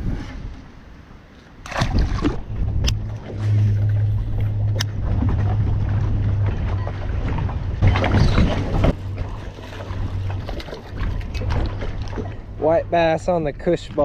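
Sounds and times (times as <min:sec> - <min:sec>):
wind buffeting microphone: 0:00.0 - 0:14.0
steady low hum: 0:02.0 - 0:14.0.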